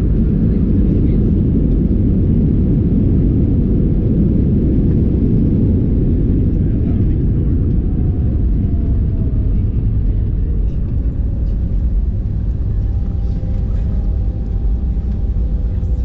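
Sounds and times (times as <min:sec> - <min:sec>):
jet engine cabin rumble: 0:00.0 - 0:16.0.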